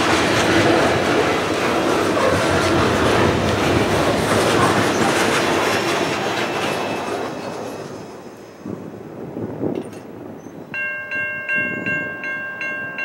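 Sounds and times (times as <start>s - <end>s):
train cars rattling: 0.0s - 13.0s
train wheels clattering on rails: 0.0s - 13.0s.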